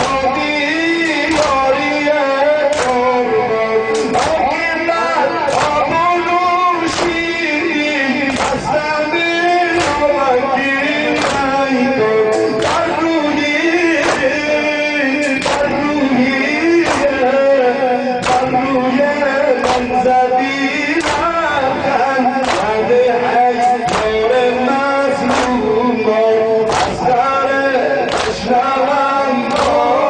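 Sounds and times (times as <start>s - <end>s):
chest slapping in rhythm: 0.0s - 30.0s
man singing a lament: 0.0s - 30.0s.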